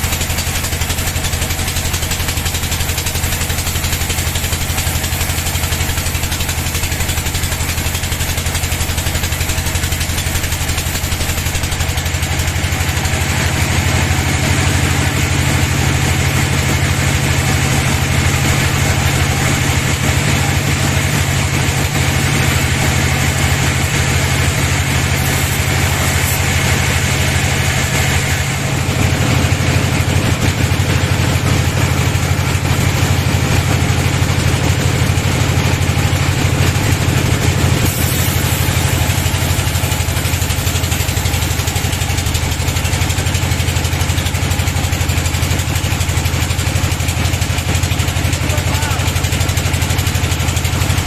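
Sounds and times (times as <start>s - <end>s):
bandsaw machine humming: 0.0s - 51.0s.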